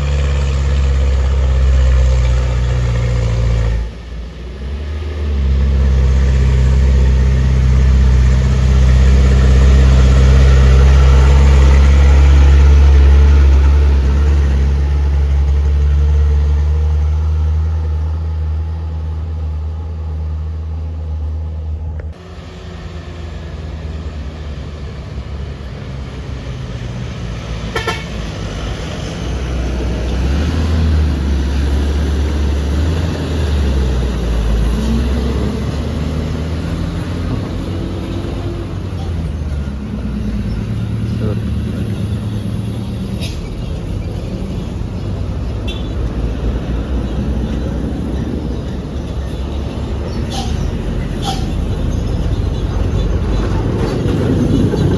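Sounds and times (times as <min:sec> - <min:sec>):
diesel truck engine droning: 0:00.0 - 0:54.9.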